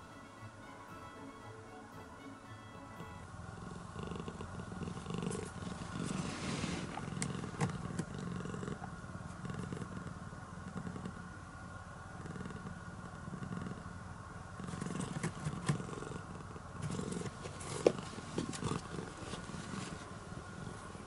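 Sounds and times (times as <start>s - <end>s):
cat purring: 3.5s - 21.0s.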